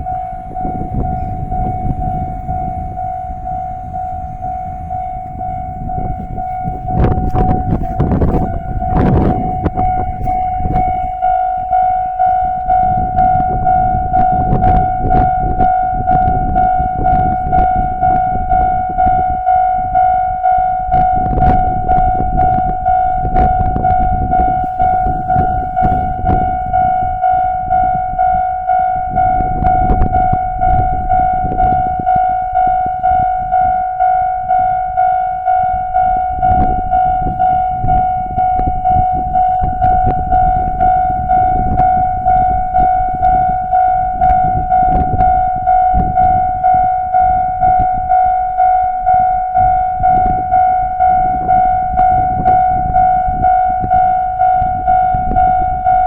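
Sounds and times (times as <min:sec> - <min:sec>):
level crossing bell ringing: 0:00.0 - 0:56.0
low rumble: 0:00.0 - 0:56.0.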